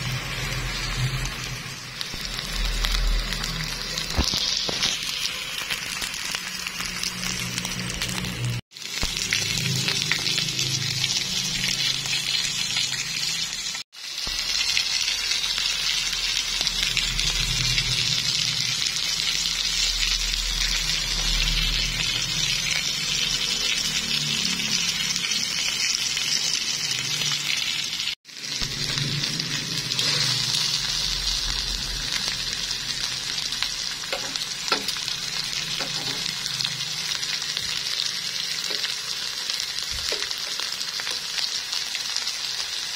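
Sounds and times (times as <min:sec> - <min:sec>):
steak sizzling in frying pan: 0:00.0 - 0:42.9.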